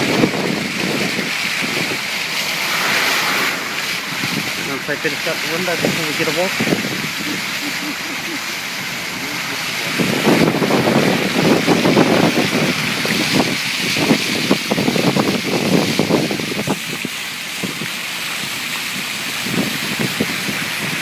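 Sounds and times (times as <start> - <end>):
water splashing against car: 0.0 - 21.0.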